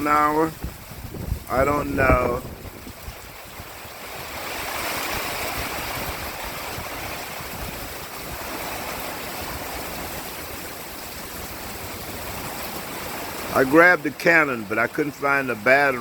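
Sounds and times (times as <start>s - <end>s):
hard rain in strong wind: 0.0s - 16.0s.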